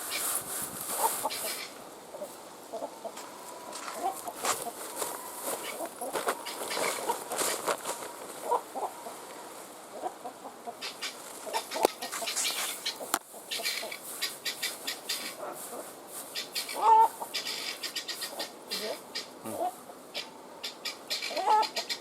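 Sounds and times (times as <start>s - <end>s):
rustling: 0.0s - 10.2s, 10.9s - 19.8s
hen clucking: 0.9s - 22.0s.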